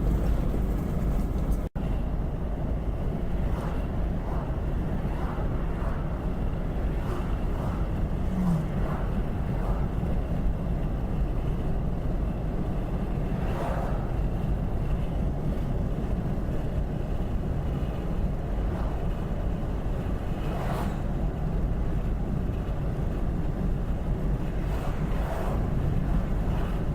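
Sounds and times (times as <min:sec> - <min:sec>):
steady low rumble: 0:00.0 - 0:26.9
wind buffeting microphone: 0:00.0 - 0:26.9.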